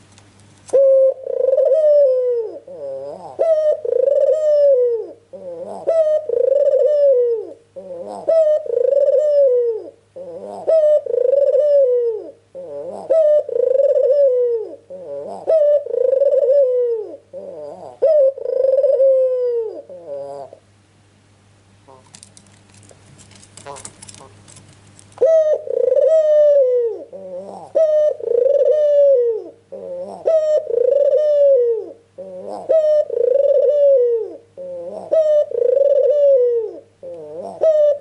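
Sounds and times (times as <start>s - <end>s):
dove cooing: 0.7s - 20.7s, 21.8s - 22.2s, 23.6s - 24.5s, 25.2s - 38.0s.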